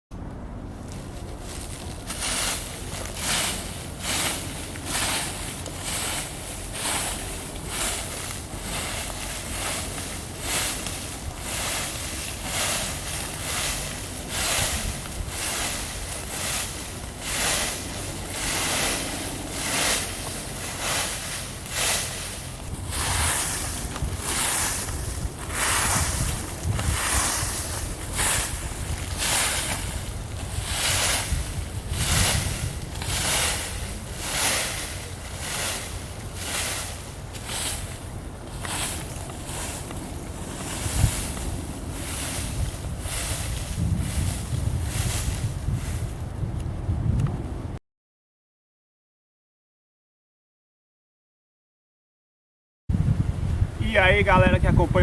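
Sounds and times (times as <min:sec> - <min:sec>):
wind rumble on microphone: 0:00.1 - 0:47.8, 0:52.9 - 0:55.0
dry leaves being scraped: 0:00.8 - 0:46.4.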